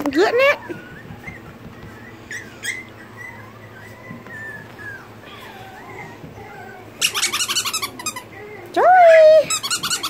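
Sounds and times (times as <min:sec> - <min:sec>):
puppy whimpering: 0:00.0 - 0:10.0.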